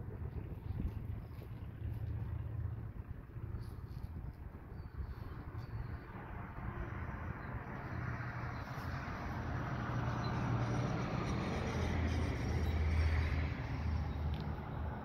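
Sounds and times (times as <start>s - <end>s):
vehicle passing on road: 0.0s - 15.0s.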